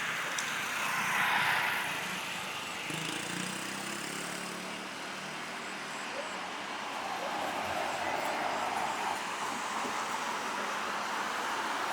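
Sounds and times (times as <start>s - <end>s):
vehicle engine noise: 0.0s - 11.9s.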